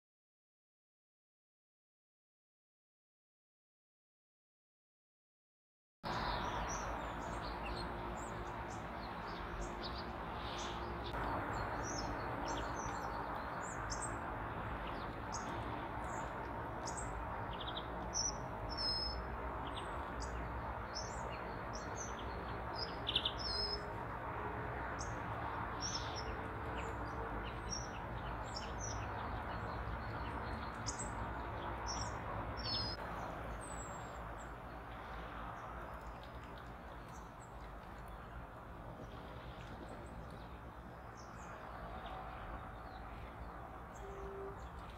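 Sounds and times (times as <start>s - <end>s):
songbirds chirping: 6.1s - 44.9s.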